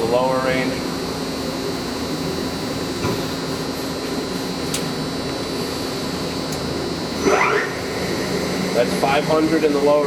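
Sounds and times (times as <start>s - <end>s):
machine hum and high whine: 0.0s - 10.0s.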